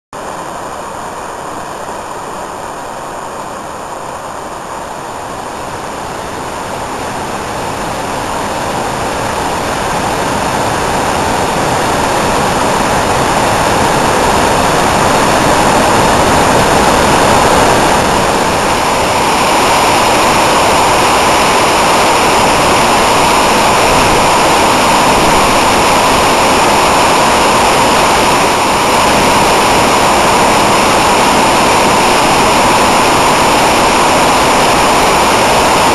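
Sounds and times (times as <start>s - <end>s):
waterfall rushing into pool: 0.2s - 35.9s.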